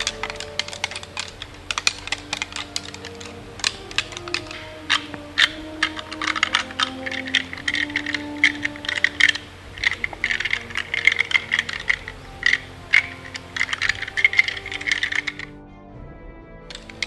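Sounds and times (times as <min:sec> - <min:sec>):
antlers clacking and grinding: 0:00.0 - 0:15.5, 0:16.7 - 0:17.0
soft background music: 0:00.0 - 0:17.0.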